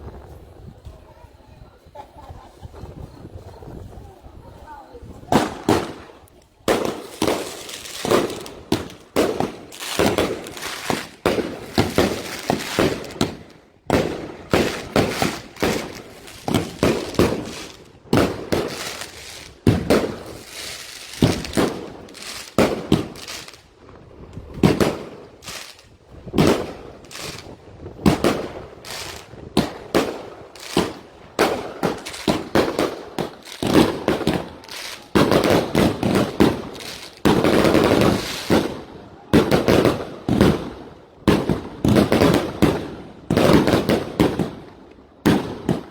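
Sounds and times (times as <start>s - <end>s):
firecrackers banging and popping: 5.3s - 45.9s.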